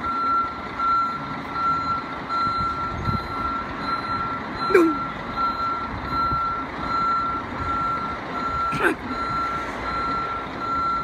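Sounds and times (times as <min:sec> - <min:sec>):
diesel engine running: 0:00.0 - 0:11.0
reversing alarm beeping: 0:00.0 - 0:11.0.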